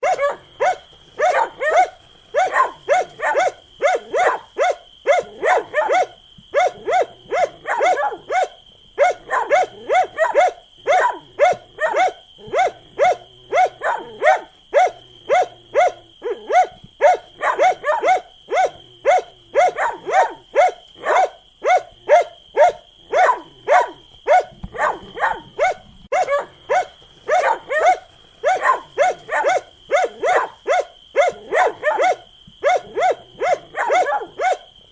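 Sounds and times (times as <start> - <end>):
dog barking rapidly: 0.0 - 34.8.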